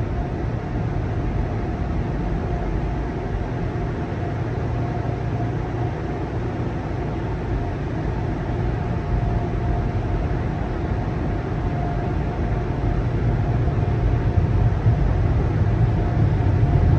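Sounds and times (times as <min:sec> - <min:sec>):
faint steady whine: 0:00.0 - 0:16.9.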